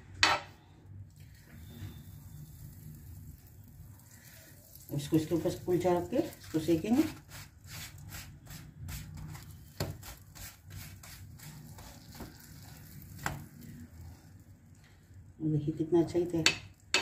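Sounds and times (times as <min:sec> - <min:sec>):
flatbread sizzling in butter: 0:01.2 - 0:14.9.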